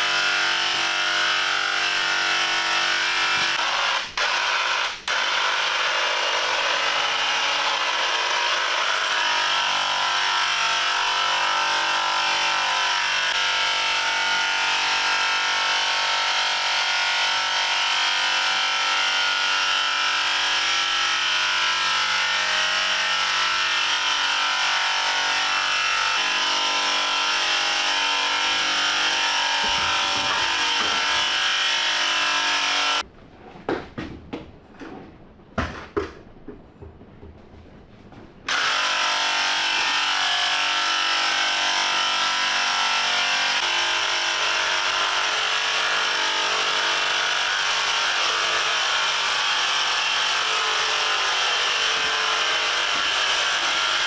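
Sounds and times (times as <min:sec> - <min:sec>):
paint sprayer motor buzz: 0:00.0 - 0:33.0, 0:38.5 - 0:54.0.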